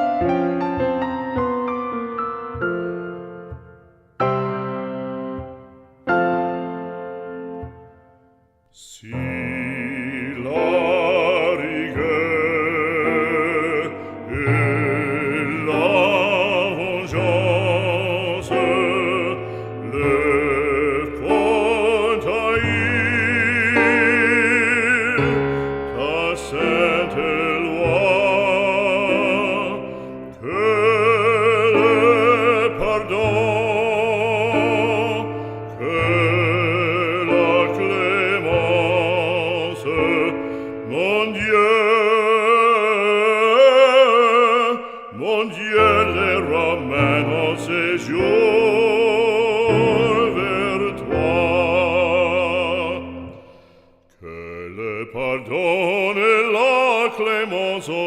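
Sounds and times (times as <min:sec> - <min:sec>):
slow classical accompaniment: 0:00.0 - 0:58.0
operatic solo singing: 0:08.6 - 0:58.0.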